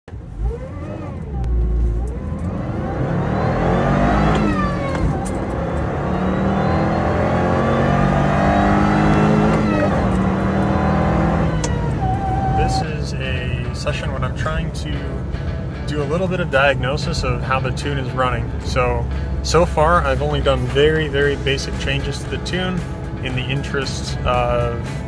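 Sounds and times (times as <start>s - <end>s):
car engine accelerating hard: 0.1s - 25.0s.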